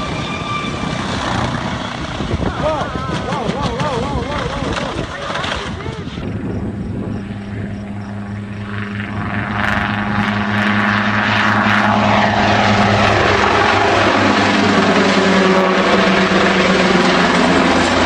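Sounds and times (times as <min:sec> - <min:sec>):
helicopter rotor and engine: 0:00.0 - 0:18.0.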